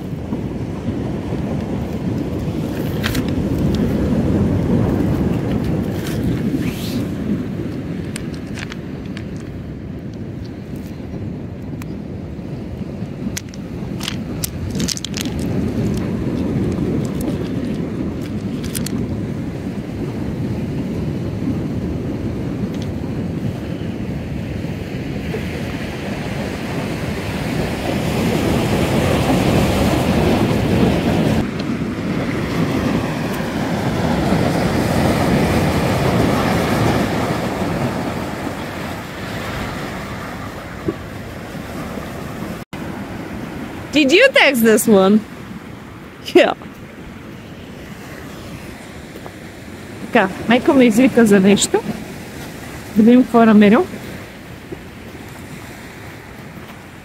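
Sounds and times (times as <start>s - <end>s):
waves washing onto stony shore: 0.0s - 57.0s
wind rumbling on microphone: 0.0s - 57.0s.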